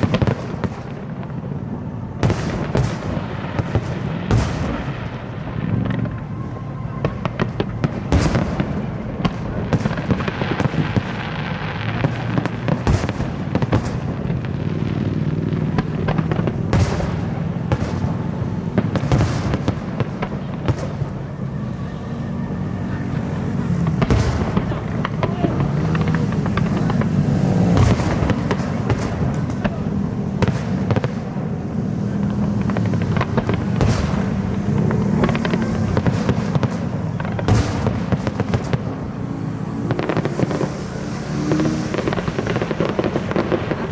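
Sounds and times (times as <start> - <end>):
fireworks crackling: 0.0 - 43.9
firework shells bursting: 2.2 - 21.4, 23.4 - 43.9.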